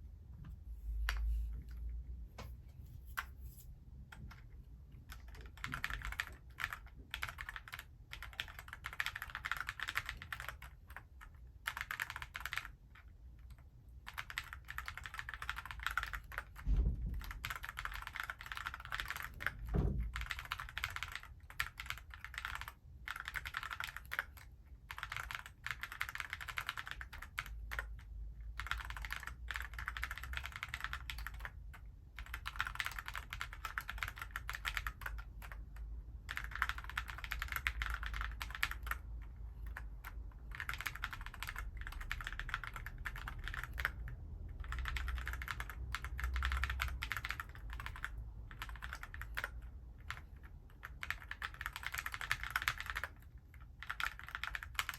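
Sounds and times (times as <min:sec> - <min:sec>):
mechanical keyboard typing: 0:04.1 - 0:54.9.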